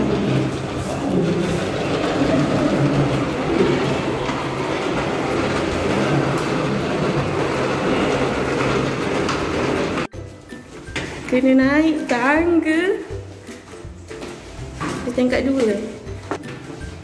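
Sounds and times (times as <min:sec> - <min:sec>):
luggage trolley wheels rolling: 0:00.0 - 0:17.0.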